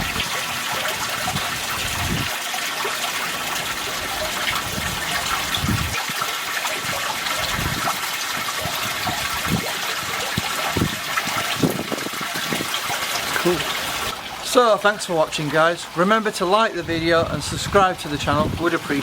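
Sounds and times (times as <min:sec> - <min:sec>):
pond water running and splashing: 0:00.0 - 0:19.0.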